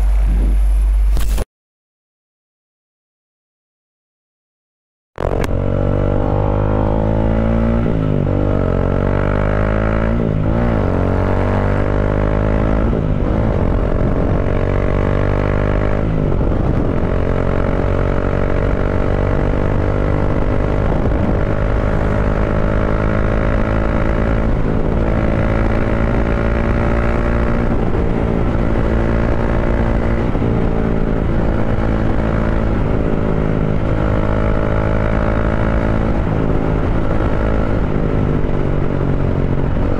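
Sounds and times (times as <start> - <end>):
motorcycle engine accelerating: 5.2 - 39.9.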